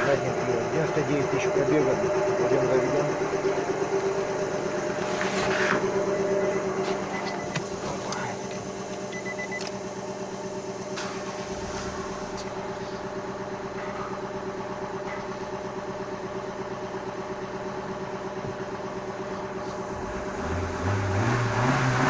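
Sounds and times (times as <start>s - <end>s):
car engine idling: 0.0s - 22.0s
louder low engine note: 0.0s - 22.0s.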